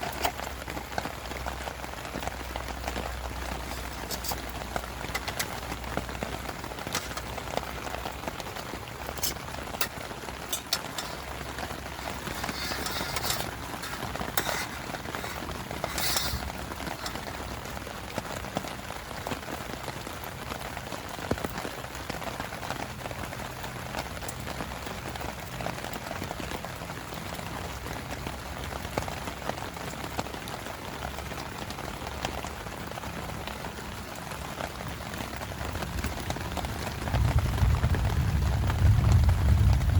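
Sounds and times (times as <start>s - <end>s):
heavy rain on a tarp: 0.0s - 39.9s
raindrops ticking: 0.0s - 39.9s.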